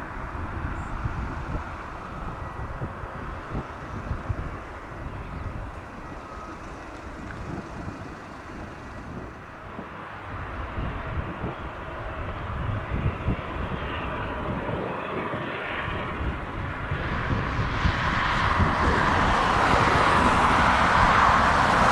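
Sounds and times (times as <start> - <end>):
jet engine rushing hiss: 0.0 - 21.9.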